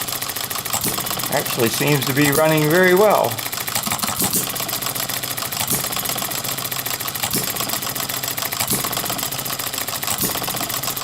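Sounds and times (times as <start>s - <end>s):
hit-and-miss engine ticking: 0.0s - 11.0s.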